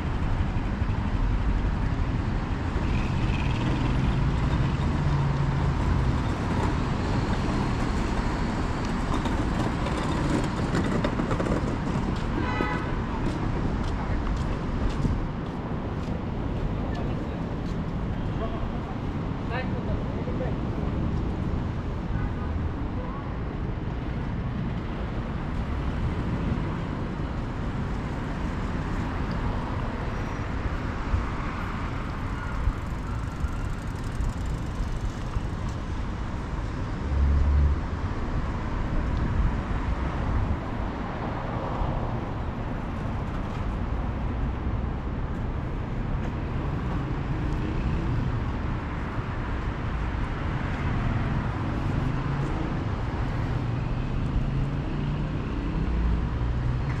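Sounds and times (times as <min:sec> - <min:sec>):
city road noise: 0:00.0 - 0:57.0
vehicles passing: 0:00.0 - 0:57.0.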